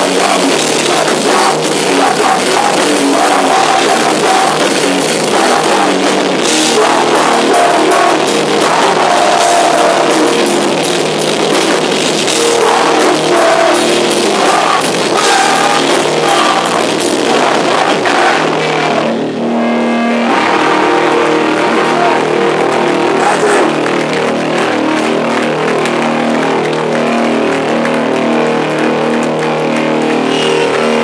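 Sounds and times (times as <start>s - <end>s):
distorted hardcore band playing: 0.0s - 31.0s
guitar feedback: 0.0s - 31.0s.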